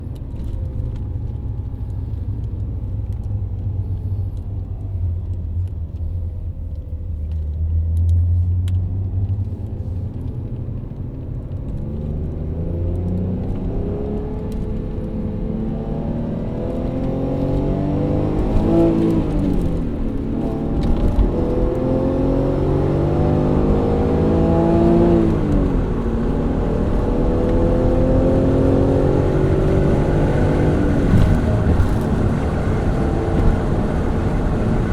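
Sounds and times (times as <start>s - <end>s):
car engine revving: 6.8s - 34.9s.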